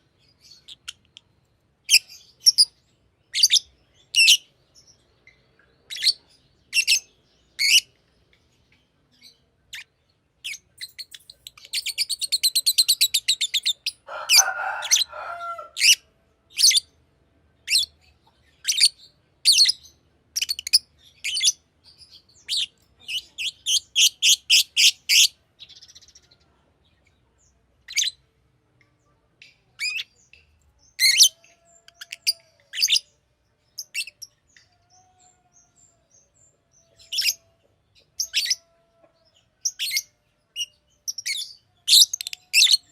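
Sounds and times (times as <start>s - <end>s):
lovebird chirping: 0.2s - 8.0s, 9.1s - 14.1s, 17.6s - 26.3s, 27.9s - 28.3s, 29.4s - 38.7s, 39.6s - 42.9s.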